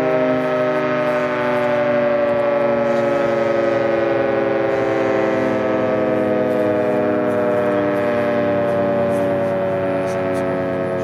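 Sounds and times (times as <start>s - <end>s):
outdoor warning siren: 0.0s - 11.0s.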